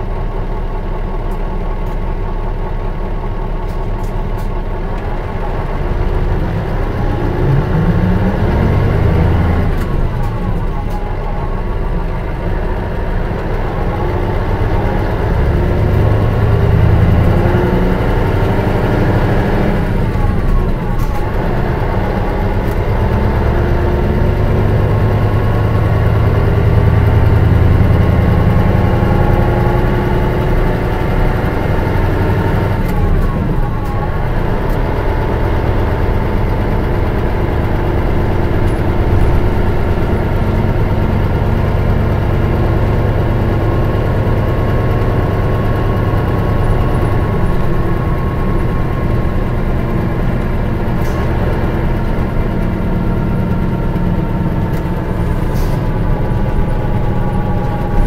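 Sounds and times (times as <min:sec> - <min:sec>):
bus diesel engine pulling: 0:00.0 - 0:58.0.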